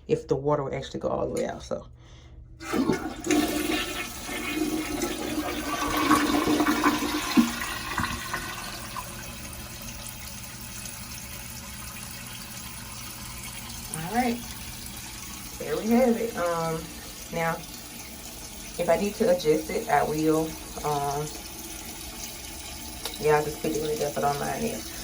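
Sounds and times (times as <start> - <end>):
toilet flushing: 2.6 - 25.0
toilet tank refilling hiss: 2.6 - 25.0.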